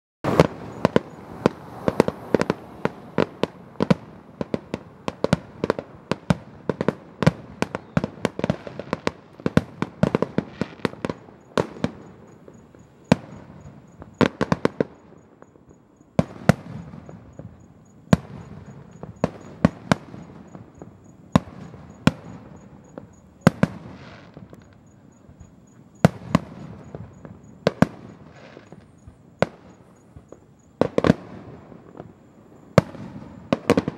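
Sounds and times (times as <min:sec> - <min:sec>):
fireworks bursting with sharp bangs: 0:00.2 - 0:33.9
fireworks rumble: 0:00.2 - 0:33.9.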